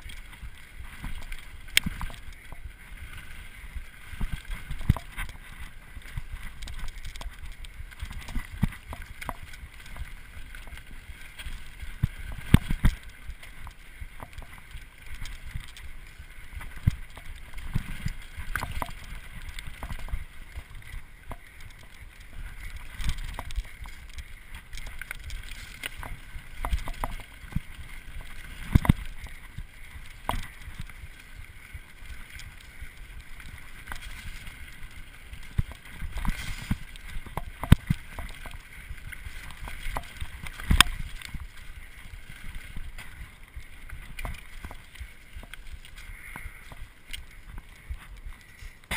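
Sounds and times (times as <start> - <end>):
bike tyres rumbling on dirt: 0.0 - 48.9.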